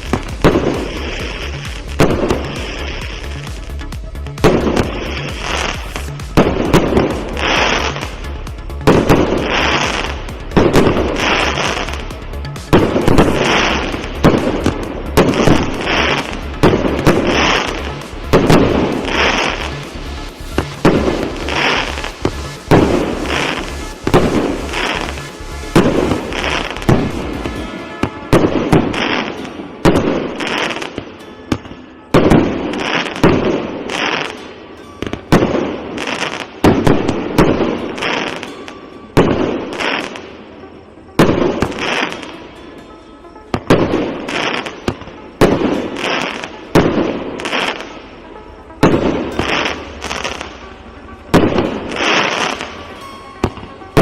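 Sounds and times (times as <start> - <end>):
firework aerial bursts: 0.0 - 31.2, 32.1 - 38.6, 39.2 - 42.6, 43.5 - 54.0.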